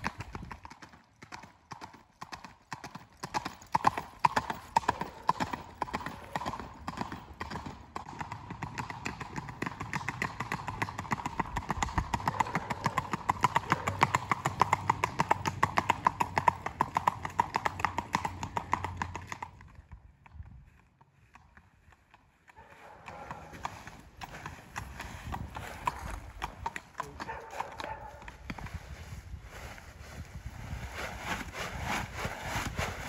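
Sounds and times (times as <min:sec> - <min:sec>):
hoofbeats on pavement: 0:00.0 - 0:33.0.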